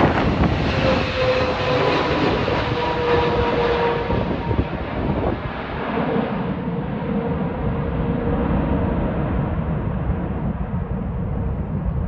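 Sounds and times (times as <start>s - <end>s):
jet airliner rumble: 0.0s - 12.0s
wind gusting on microphone: 0.0s - 12.0s.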